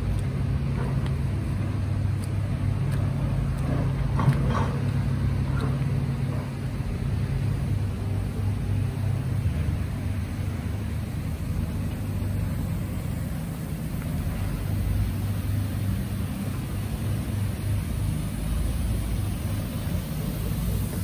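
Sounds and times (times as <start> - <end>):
diesel machinery engine rumble: 0.0 - 21.0.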